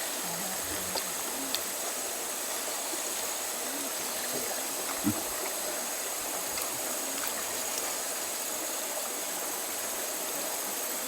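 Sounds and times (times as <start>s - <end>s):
river water flowing over stones: 0.0s - 11.0s.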